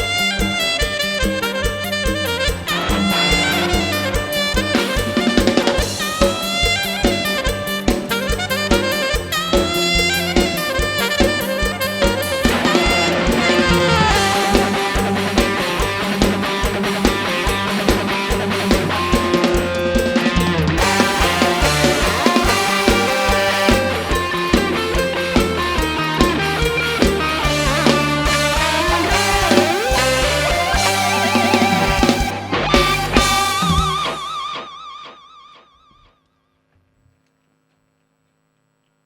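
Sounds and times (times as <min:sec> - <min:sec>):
drum kit beat: 0:00.0 - 0:34.8
live band music: 0:00.0 - 0:35.4.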